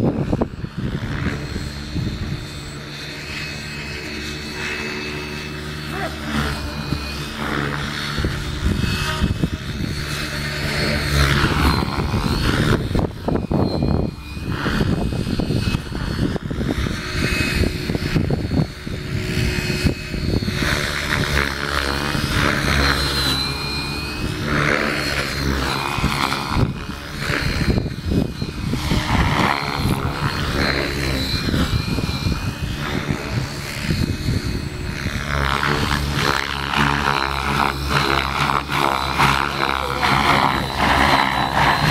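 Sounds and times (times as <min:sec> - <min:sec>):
electric motor whine: 0:00.0 - 0:41.9
helicopter rotor blades whirring: 0:00.0 - 0:41.9
wind buffeting microphone: 0:00.0 - 0:41.9.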